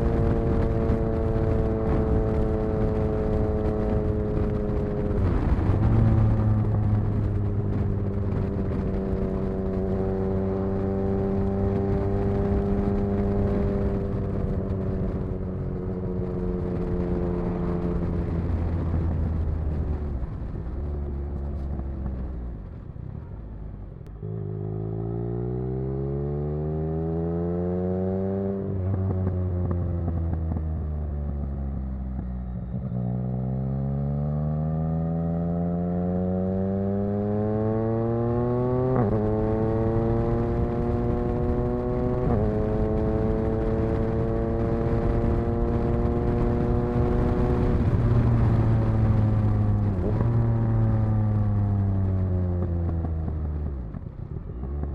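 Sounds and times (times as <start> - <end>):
motorcycle engine revving: 0.0 - 19.5, 24.1 - 54.9.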